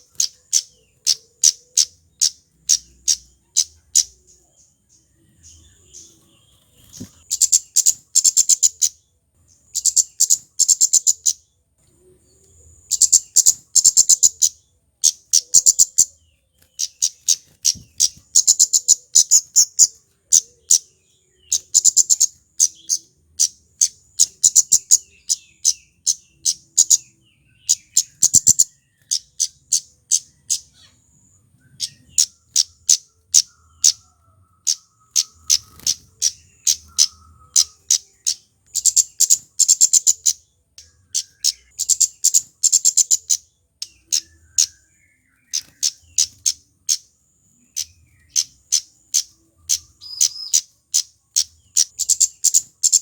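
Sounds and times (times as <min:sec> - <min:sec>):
bird calling with sharp chips: 0:00.0 - 0:04.7, 0:05.4 - 0:09.1, 0:09.7 - 0:11.6, 0:12.3 - 0:53.0.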